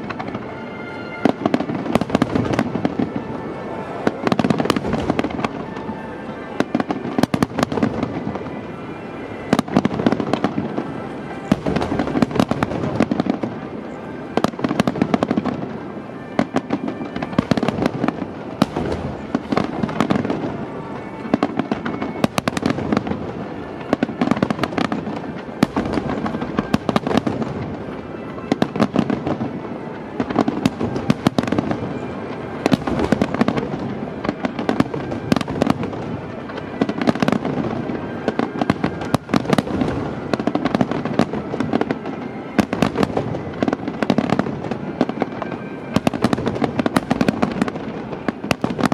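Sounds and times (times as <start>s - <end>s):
firework bangs and crackling: 0.0s - 48.9s
music: 0.0s - 48.9s.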